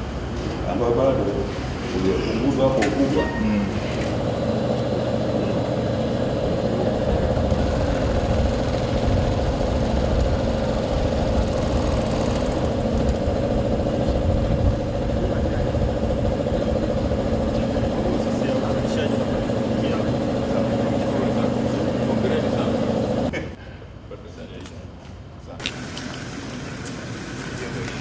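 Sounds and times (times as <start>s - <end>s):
milling machinery humming: 0.0s - 23.3s.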